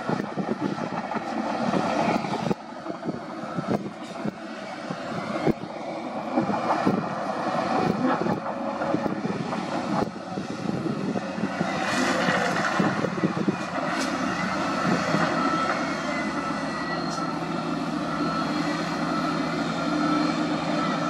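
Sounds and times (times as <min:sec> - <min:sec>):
diesel engines under load: 0:00.0 - 0:21.0.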